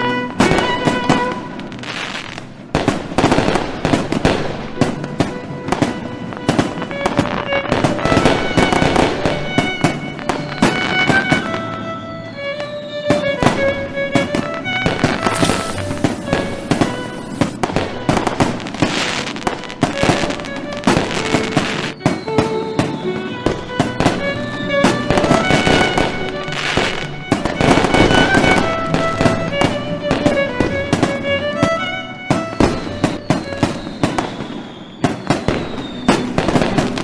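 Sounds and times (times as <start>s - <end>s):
fireworks bangs and crackles: 0.0s - 37.0s
music with held notes: 0.0s - 37.0s.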